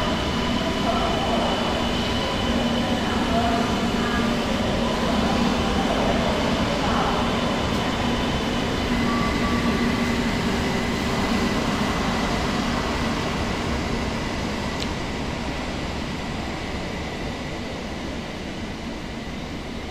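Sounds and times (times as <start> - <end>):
train running noise: 0.0 - 19.9.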